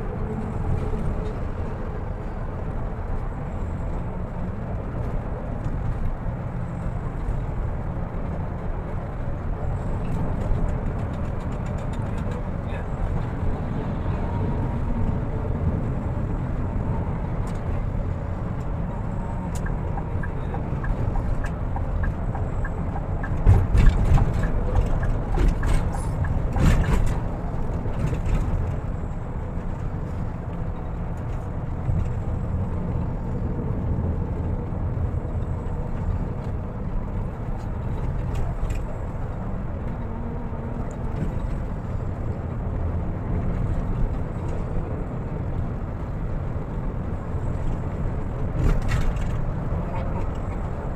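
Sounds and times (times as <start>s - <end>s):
bus engine and road noise: 0.0s - 50.9s.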